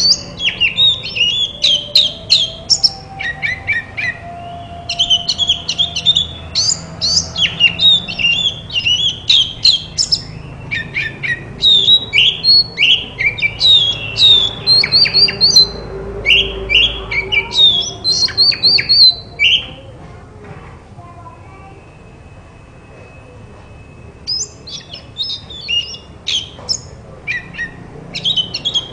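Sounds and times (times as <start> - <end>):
bird singing: 0.0 - 20.0, 21.2 - 28.9.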